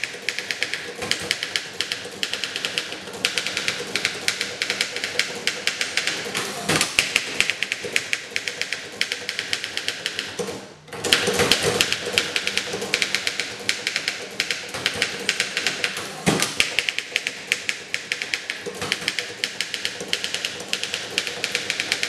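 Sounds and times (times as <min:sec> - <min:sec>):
typewriter keystroke clacks: 0:00.0 - 0:22.0.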